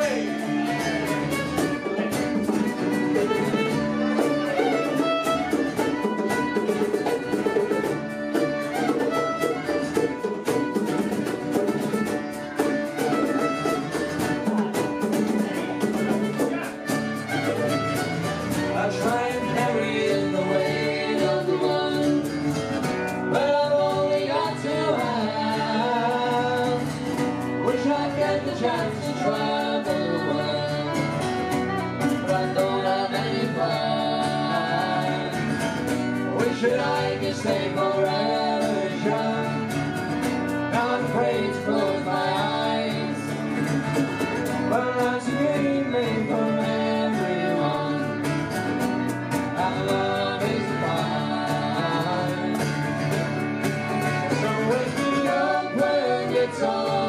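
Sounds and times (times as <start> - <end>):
person singing: 0.0 - 8.4, 18.4 - 57.0
acoustic guitar: 0.0 - 57.0
fiddle: 0.0 - 57.0.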